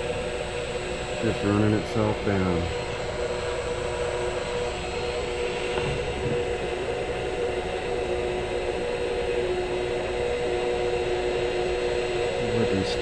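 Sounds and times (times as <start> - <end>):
machine hum with held tones: 0.0 - 13.0.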